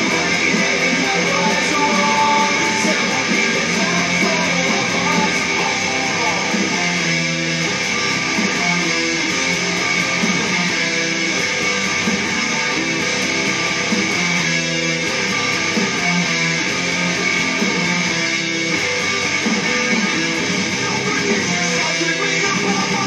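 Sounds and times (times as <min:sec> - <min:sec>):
electric guitar fast-picked riff: 0:00.0 - 0:23.0.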